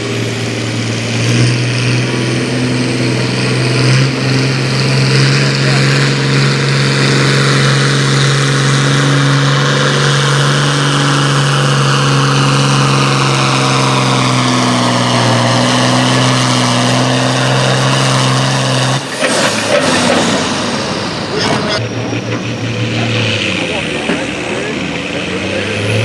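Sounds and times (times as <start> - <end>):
loud vehicle engine running: 0.0 - 26.0.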